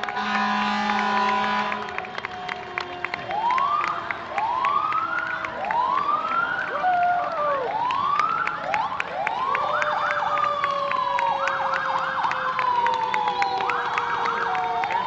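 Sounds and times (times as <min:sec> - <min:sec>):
emergency sirens wailing: 0:00.0 - 0:15.0.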